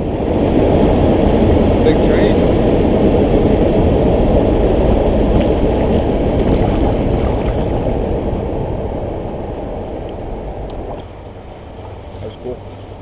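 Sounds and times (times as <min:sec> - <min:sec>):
freight train rumbling over bridge: 0:00.0 - 0:13.0.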